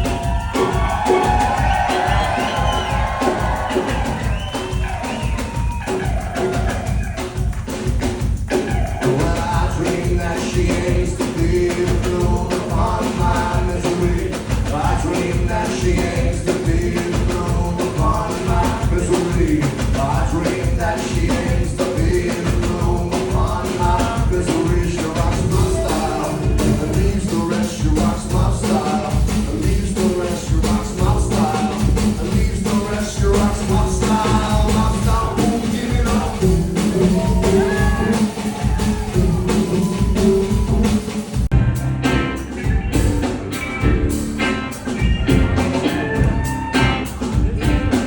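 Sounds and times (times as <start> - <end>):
live band playing: 0.0 - 48.0.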